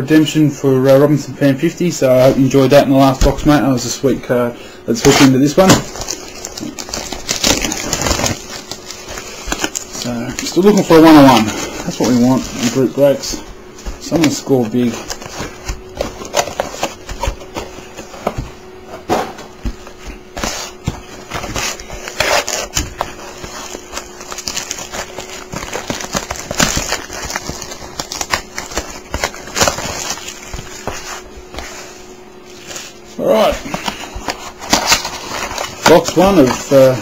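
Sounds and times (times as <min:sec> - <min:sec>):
plastic wrap crinkling and tearing: 0:05.0 - 0:18.4, 0:19.8 - 0:37.0.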